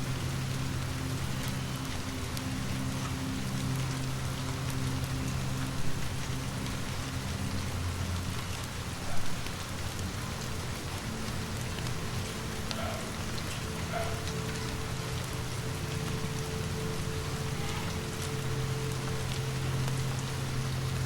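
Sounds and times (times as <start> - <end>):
low steady drone: 0.0 - 21.0
steady rain falling: 0.0 - 21.0.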